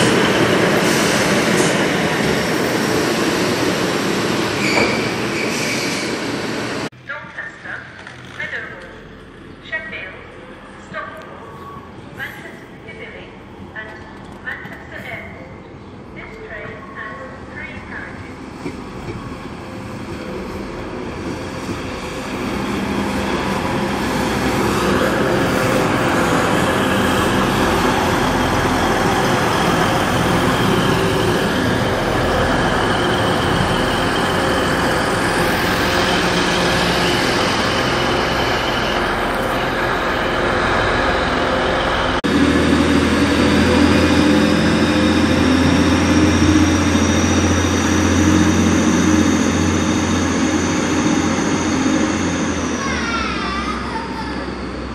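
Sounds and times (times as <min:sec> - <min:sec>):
diesel train engine droning: 0:00.0 - 0:54.9
diesel train passing: 0:00.0 - 0:54.9.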